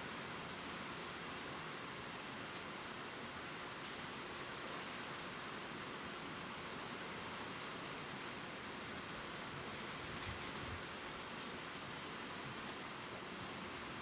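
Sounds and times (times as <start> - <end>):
rain pattering on leaves: 0.2 - 14.0.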